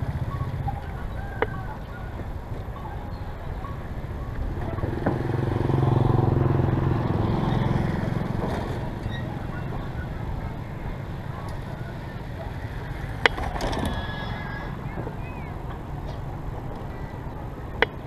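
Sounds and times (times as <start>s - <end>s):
vehicle engine passing by: 0.0s - 18.0s.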